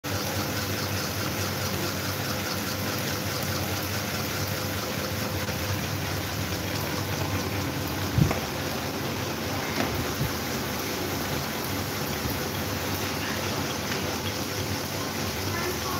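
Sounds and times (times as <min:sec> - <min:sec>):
electric fans rushing air: 0:00.1 - 0:15.9
low fan motor hum: 0:00.1 - 0:15.9.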